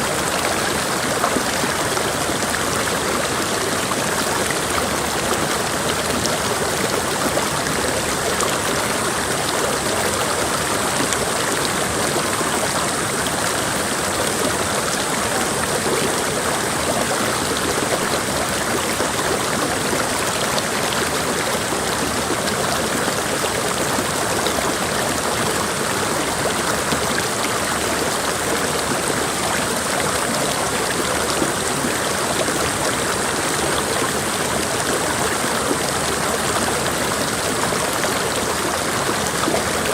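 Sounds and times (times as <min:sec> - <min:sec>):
creek water rushing over rocks: 0:00.0 - 0:39.9.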